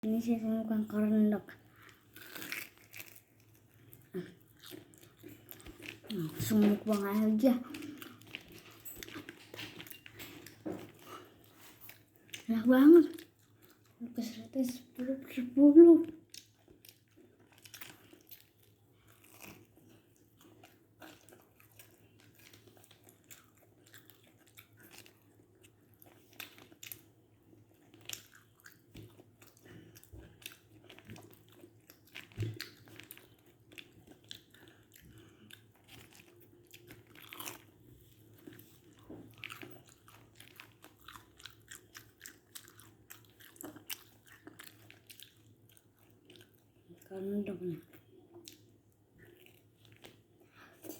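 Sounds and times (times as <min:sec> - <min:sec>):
person chewing crispy food: 0:01.6 - 0:15.1, 0:16.2 - 0:47.2, 0:47.8 - 0:50.9.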